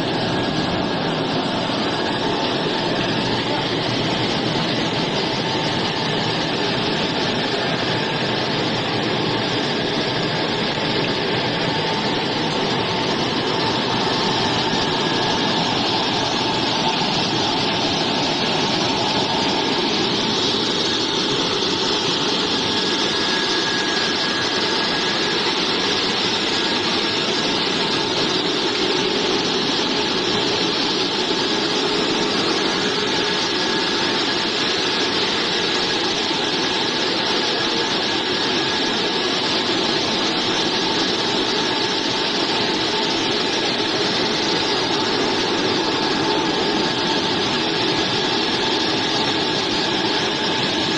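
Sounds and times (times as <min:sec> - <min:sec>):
factory machinery running: 0:00.0 - 0:50.9.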